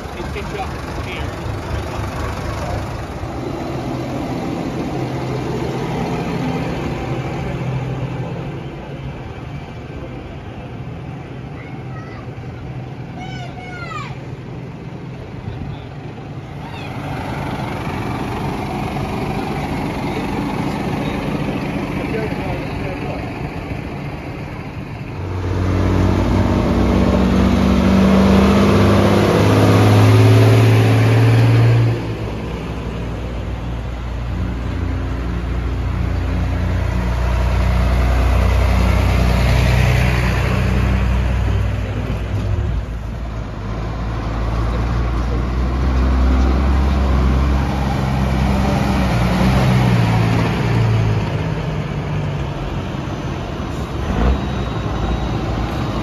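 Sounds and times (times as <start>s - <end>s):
tractor diesel engines humming: 0.0s - 56.0s.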